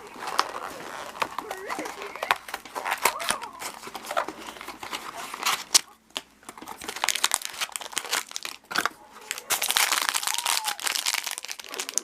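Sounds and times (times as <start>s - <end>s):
packaging crinkling and ripping: 0.0s - 12.0s.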